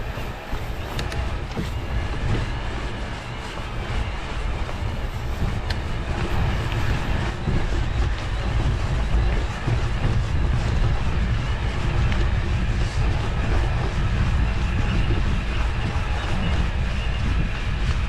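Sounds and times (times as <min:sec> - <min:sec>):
bike rattles: 0:00.0 - 0:18.0
electric mountain bike running: 0:00.0 - 0:18.0
wind rumbling on microphone: 0:00.0 - 0:18.0.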